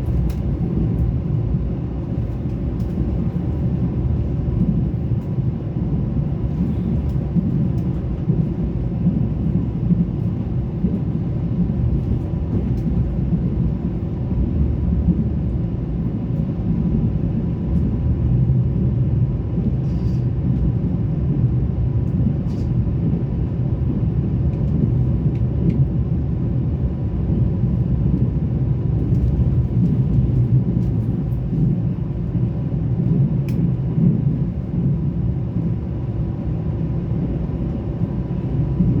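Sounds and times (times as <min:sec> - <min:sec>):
passenger train rumbling: 0:00.0 - 0:39.0.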